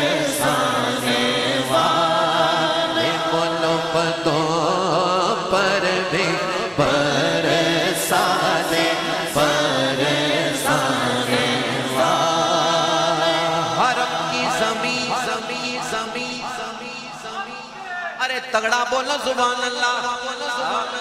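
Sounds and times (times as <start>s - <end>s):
men chanting: 0.0s - 18.2s.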